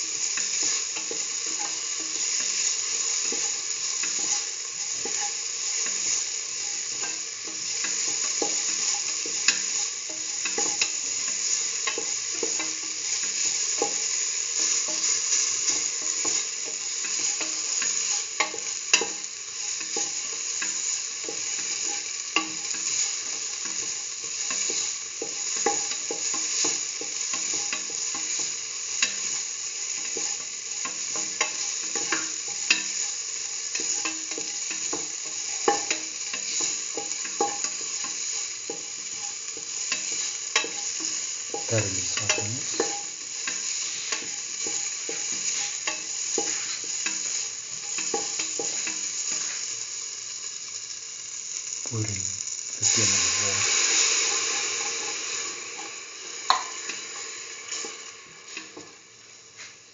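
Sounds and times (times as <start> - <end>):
vegetables sizzling in oil: 0.0 - 59.9
spatula clicking against pan: 0.2 - 49.6, 56.5 - 57.0
spatula stirring and scraping: 0.4 - 49.7.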